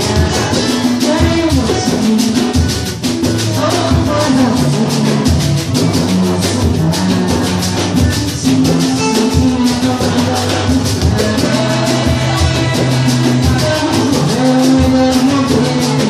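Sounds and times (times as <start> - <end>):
samba percussion group drumming: 0.0 - 16.0.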